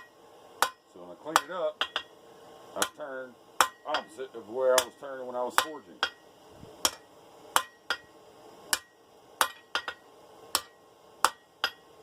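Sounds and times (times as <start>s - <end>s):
hammer striking steel on anvil: 0.0s - 2.2s, 2.8s - 3.0s, 3.6s - 6.2s, 6.8s - 12.0s.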